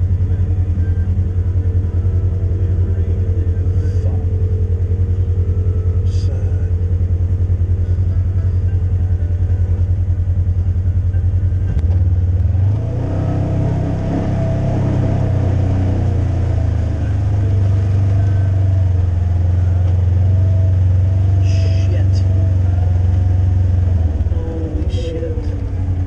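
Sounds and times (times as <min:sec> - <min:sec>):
off-road vehicle engine: 0:00.0 - 0:26.0.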